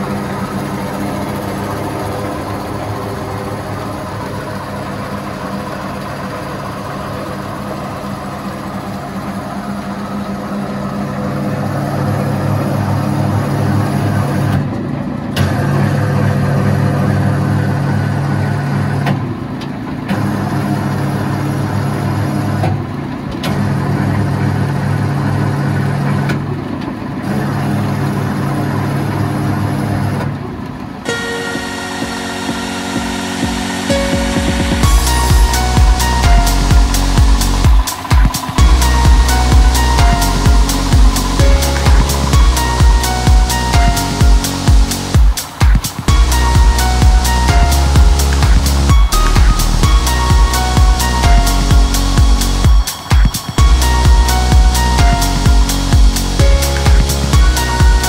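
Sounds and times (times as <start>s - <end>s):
wood chipper running: 0.0s - 58.0s.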